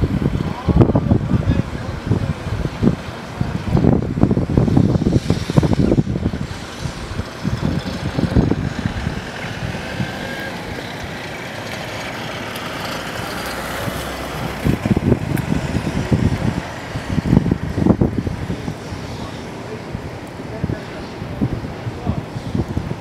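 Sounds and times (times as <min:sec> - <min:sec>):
vehicle engine running: 0:00.0 - 0:23.0
wind gusting on microphone: 0:00.0 - 0:23.0.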